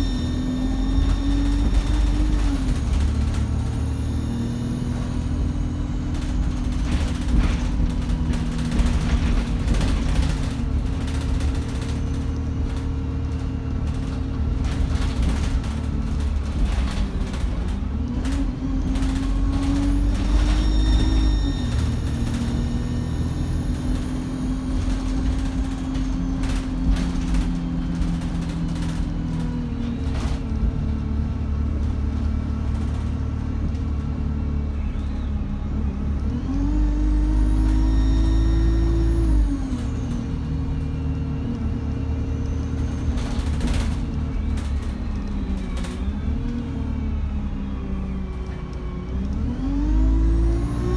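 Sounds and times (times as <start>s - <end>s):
diesel bus engine running: 0.0s - 50.9s.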